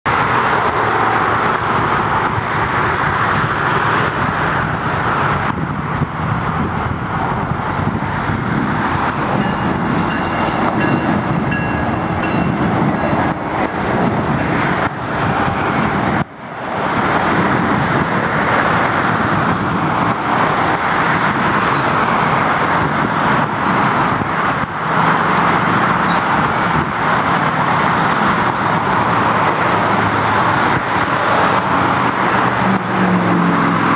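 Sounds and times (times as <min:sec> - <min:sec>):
train rumbling: 0:00.1 - 0:33.9.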